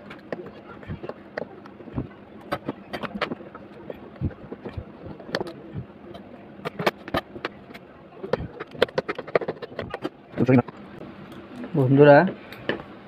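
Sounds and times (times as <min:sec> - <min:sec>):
hand tools clicking and tapping: 0:00.0 - 0:10.8.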